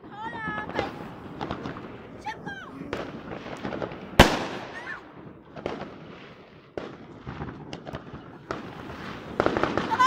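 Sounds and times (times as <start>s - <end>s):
distant explosions crackling: 0.0s - 10.0s
firecrackers banging: 0.0s - 10.0s.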